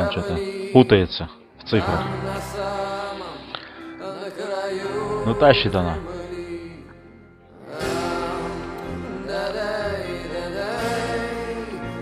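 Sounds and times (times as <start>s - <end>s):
background music sustained notes: 0.0s - 12.0s
person singing slow melody: 0.0s - 12.0s.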